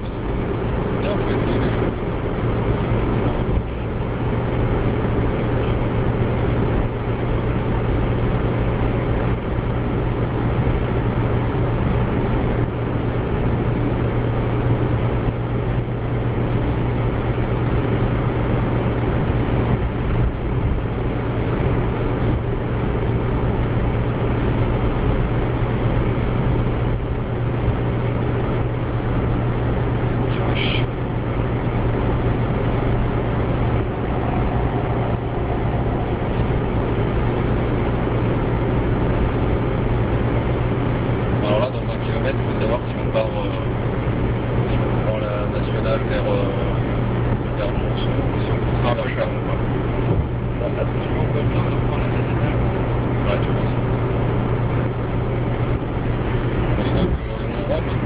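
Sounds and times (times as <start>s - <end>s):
car engine hum: 0.0s - 58.0s
road noise inside car: 0.0s - 58.0s.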